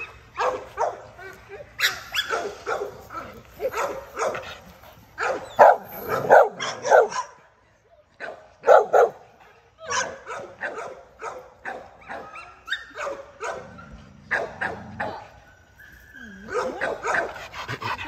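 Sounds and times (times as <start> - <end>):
dogs barking and yipping: 0.0 - 7.5, 8.2 - 18.0.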